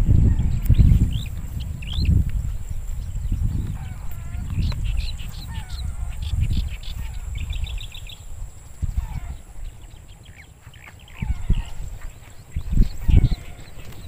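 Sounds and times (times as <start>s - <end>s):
bird trill: 0.0s - 14.0s
small birds chirping: 0.0s - 14.0s.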